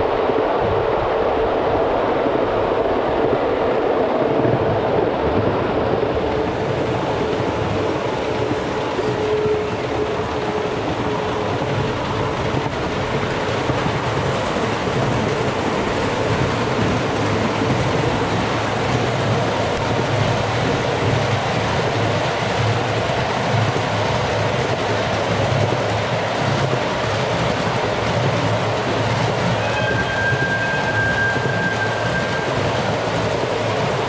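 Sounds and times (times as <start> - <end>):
miniature train wheels rumbling on rail: 6.2 - 34.0.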